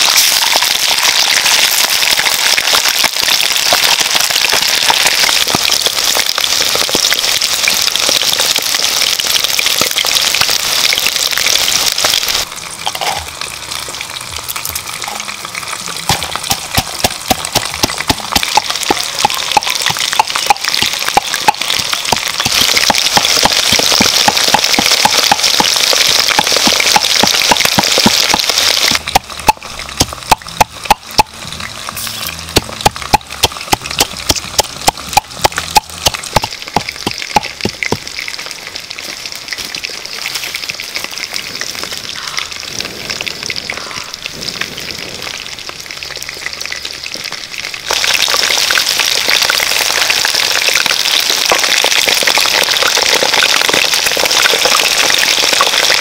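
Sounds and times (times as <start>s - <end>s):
oil crackling and popping: 0.0s - 56.0s
quail sizzling in hot oil: 0.0s - 56.0s.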